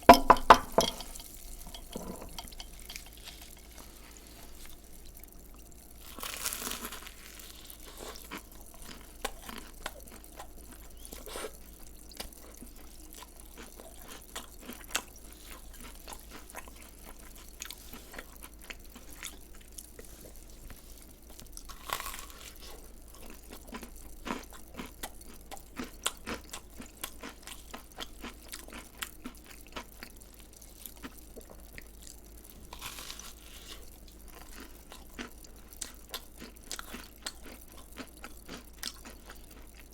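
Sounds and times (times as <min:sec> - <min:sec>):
crunchy food chewing: 0:00.8 - 0:39.9.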